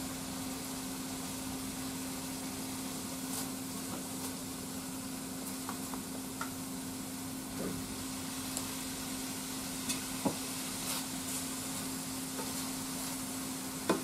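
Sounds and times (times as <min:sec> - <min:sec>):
pork sizzling in a frying pan: 0:00.0 - 0:14.0
steady low hum: 0:00.0 - 0:14.0.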